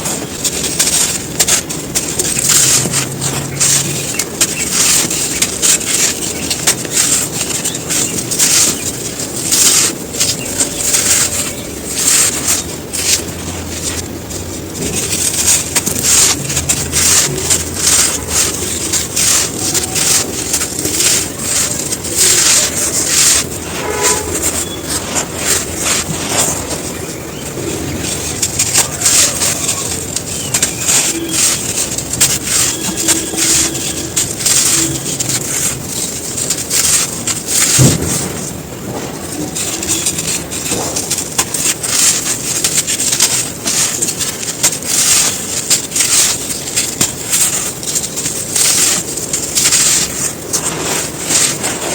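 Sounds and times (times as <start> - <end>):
sand crumbling and crunching: 0.0 - 51.9.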